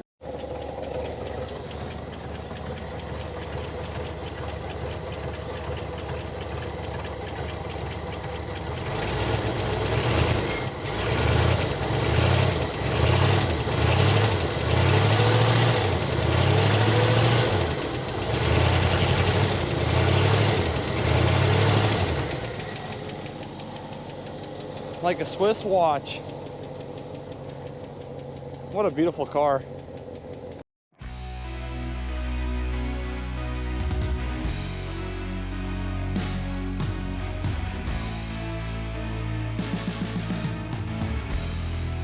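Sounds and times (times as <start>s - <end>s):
car engine running: 0.0s - 31.2s, 33.4s - 42.0s.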